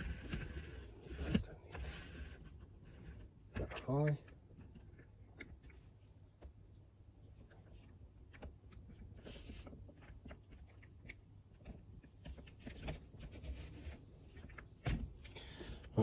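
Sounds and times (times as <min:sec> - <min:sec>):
handling clicks and rustles: 0:00.0 - 0:16.0.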